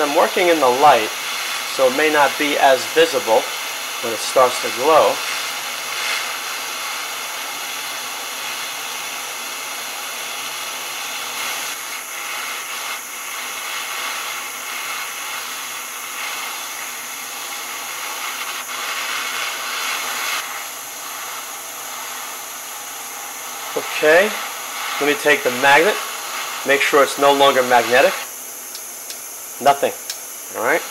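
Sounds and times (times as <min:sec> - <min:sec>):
torch flame hissing: 0:00.0 - 0:30.9.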